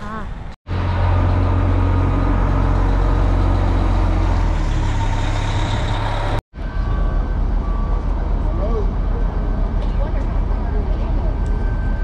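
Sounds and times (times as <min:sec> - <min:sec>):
diesel engine idling: 0:00.7 - 0:11.5.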